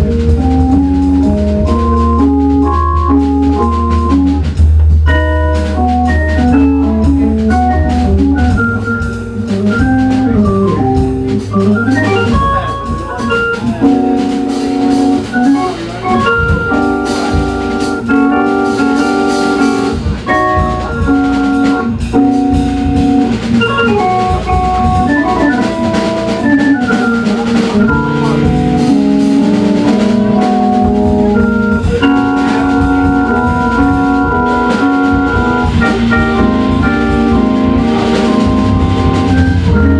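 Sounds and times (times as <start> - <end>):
drum kit with cymbals: 0.0 - 39.9
jazz organ ballad: 0.0 - 39.9.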